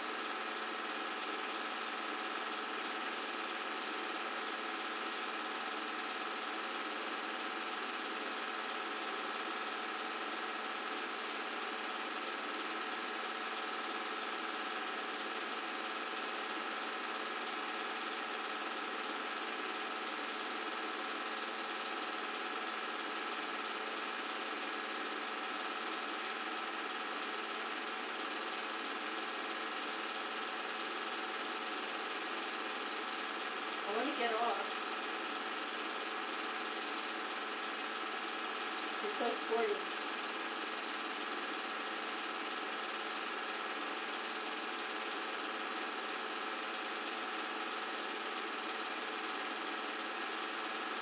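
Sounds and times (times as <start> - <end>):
film projector running: 0.0 - 51.0.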